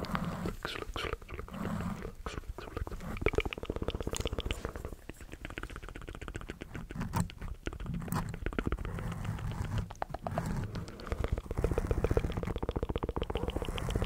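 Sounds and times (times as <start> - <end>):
wet mouth clicking: 0.0 - 14.0.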